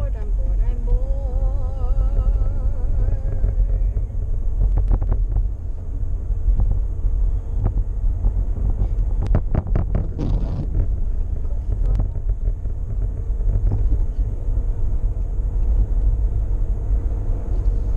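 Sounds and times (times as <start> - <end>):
car driving rumble: 0.0 - 17.9
wind buffeting microphone: 0.0 - 17.9.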